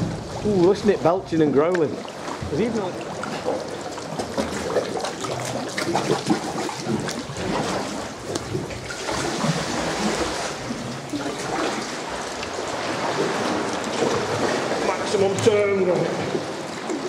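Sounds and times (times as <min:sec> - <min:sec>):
sea water sloshing in a cave: 0:00.0 - 0:17.0.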